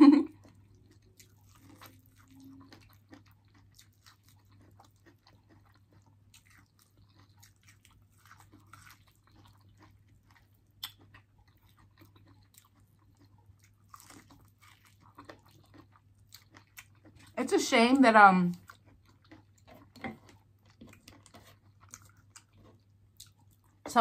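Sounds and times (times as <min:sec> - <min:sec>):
biting and chewing corn: 0:00.4 - 0:17.4, 0:18.6 - 0:23.9.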